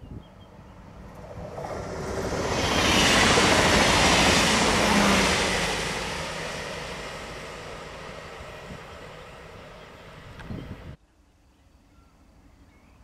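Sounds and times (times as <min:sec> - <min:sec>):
train passing rushing noise: 0:00.4 - 0:11.0.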